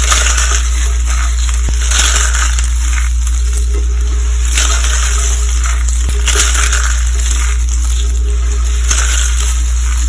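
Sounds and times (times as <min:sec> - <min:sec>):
dry soap crunching: 0:00.0 - 0:10.0
low hum: 0:00.0 - 0:10.0.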